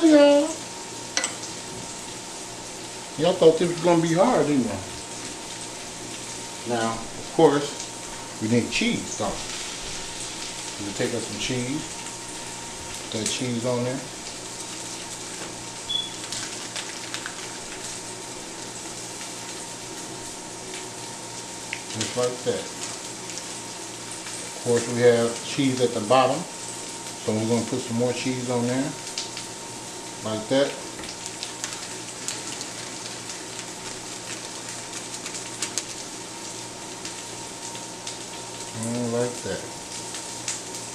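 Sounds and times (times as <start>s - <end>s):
steak and onions sizzling in a pan: 0.1s - 40.9s.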